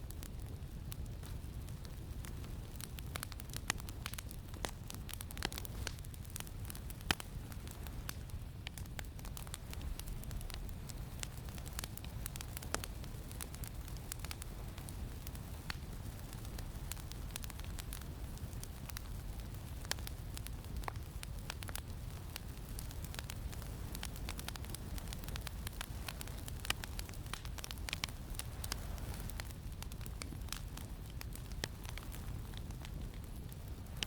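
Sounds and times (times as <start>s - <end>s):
campfire crackling and popping: 0.0s - 34.0s
low rumble of wind: 0.0s - 34.0s.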